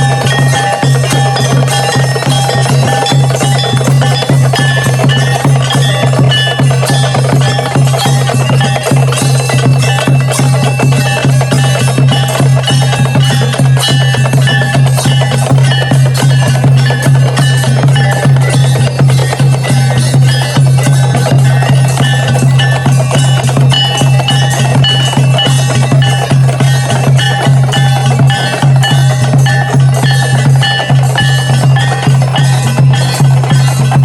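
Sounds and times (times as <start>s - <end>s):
temple bells ringing: 0.0s - 34.0s.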